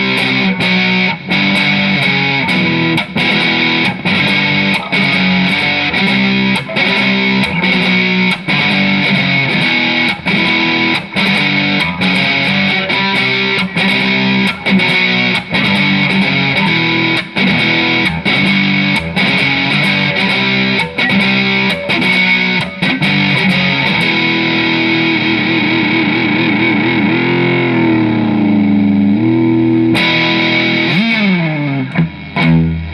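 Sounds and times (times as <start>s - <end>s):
distorted electric guitar: 0.0s - 32.9s.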